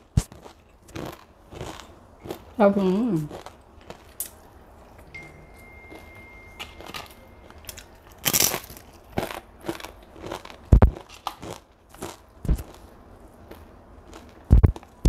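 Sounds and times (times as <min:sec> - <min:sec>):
chewing noodles: 0:00.1 - 0:05.1, 0:06.8 - 0:15.0.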